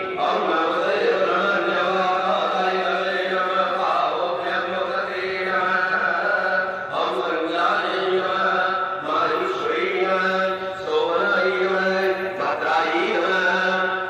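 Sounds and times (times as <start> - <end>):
melodic mantra chanting: 0.0 - 14.0.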